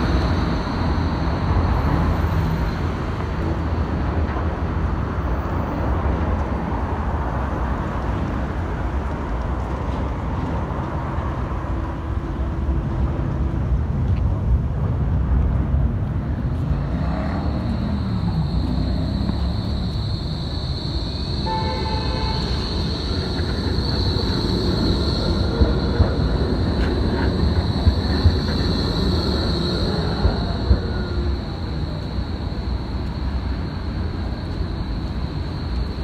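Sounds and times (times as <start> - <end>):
road traffic rumble: 0.0 - 36.0
tram electric whine: 0.0 - 36.0.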